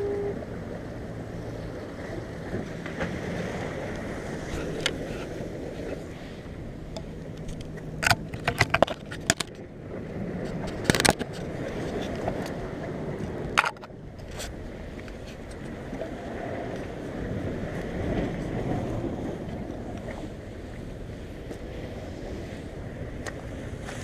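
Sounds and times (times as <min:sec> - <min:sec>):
surf: 0:00.0 - 0:24.0
wind: 0:00.0 - 0:24.0.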